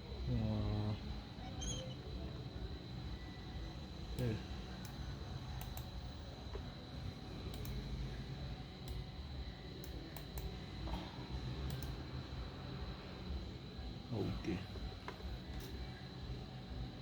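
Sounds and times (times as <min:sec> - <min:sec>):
cooling fan humming: 0:00.0 - 0:17.0.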